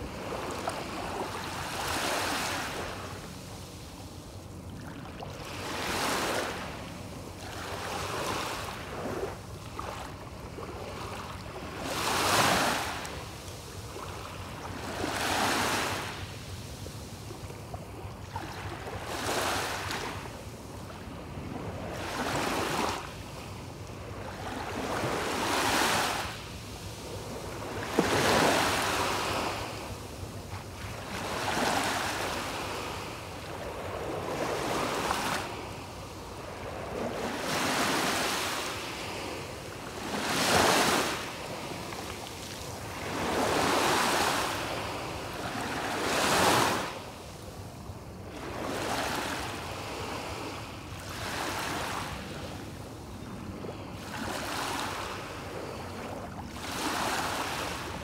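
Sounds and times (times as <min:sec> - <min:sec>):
waves breaking on beach: 0:00.0 - 0:03.9, 0:04.5 - 0:58.0.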